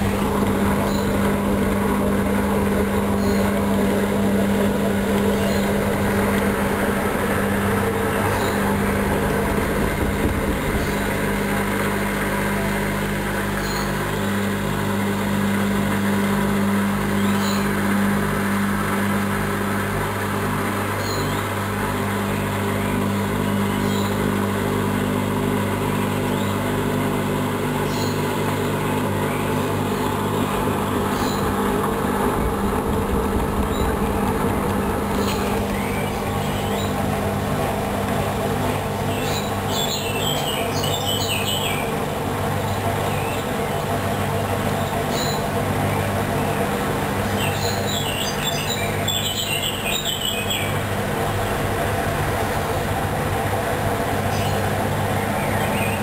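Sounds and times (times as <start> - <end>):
washing machine drum hum: 0.0 - 49.1.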